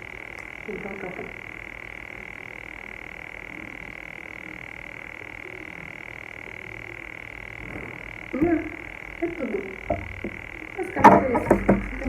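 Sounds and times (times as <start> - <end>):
high-pitched electronic whine: 0.0 - 12.0
low hum: 0.0 - 12.0.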